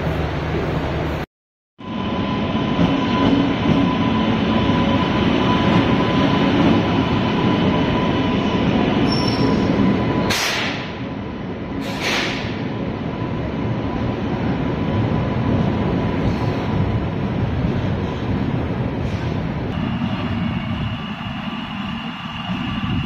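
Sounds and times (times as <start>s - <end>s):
train wheels rumbling and clattering: 2.5s - 13.0s, 14.4s - 23.0s.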